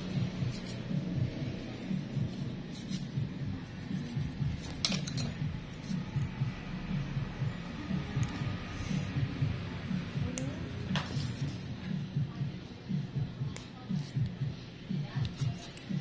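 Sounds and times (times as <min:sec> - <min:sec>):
low pulsing background: 0:00.0 - 0:16.0.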